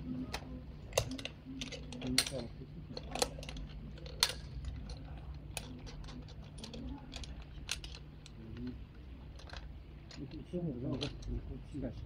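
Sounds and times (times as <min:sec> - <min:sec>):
steady low hum: 0:00.0 - 0:12.0
metal gear clicking and clinking: 0:01.0 - 0:11.4.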